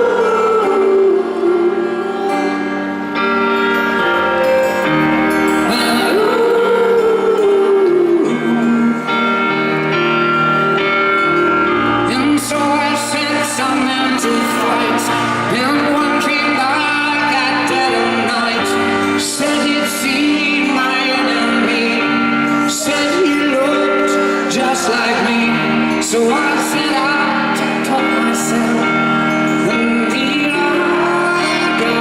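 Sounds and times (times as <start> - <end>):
live band playing pop ballad: 0.0 - 32.0
person singing: 0.0 - 32.0.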